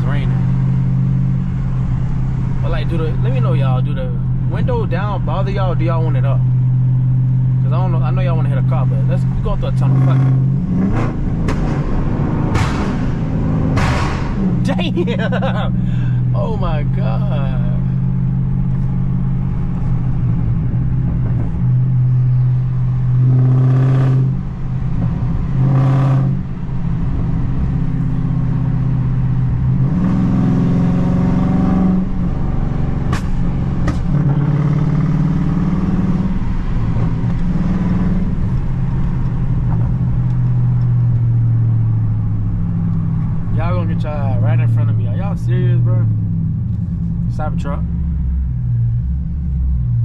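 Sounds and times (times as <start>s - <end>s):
car engine droning under load: 0.0s - 50.0s.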